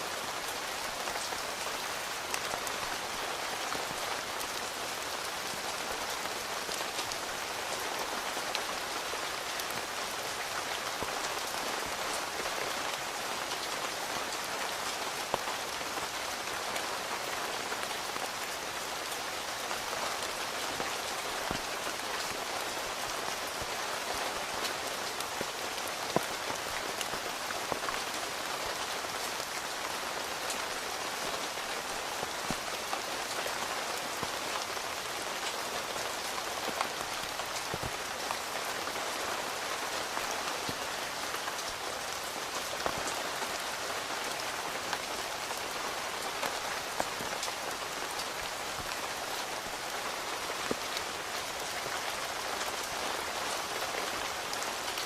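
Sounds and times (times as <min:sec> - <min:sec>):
heavy raindrops striking tent: 0:00.0 - 0:55.0
rain on tent fabric: 0:00.0 - 0:55.0.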